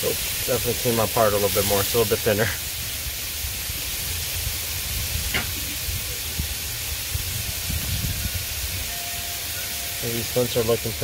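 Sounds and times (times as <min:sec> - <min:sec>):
burger patties sizzling on griddle: 0:00.0 - 0:11.0.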